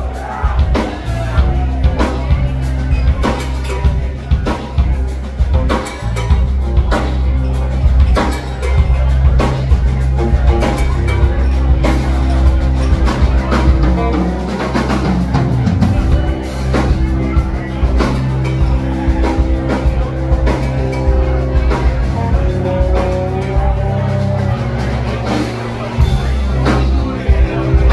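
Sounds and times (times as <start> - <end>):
drum beat: 0.0 - 27.9
heavy bass line: 0.0 - 27.9
live rock band: 0.0 - 27.9.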